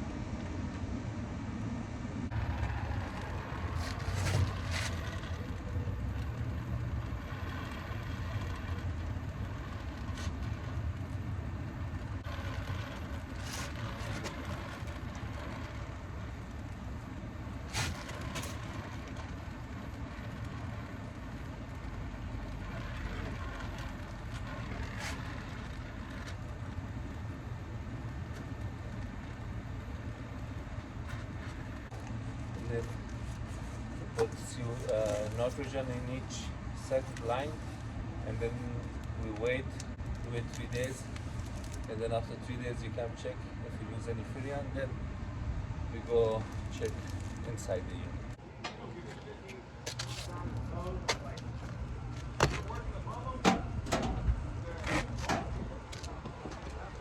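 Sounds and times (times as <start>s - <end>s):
low mechanical rumble: 0.0s - 57.0s.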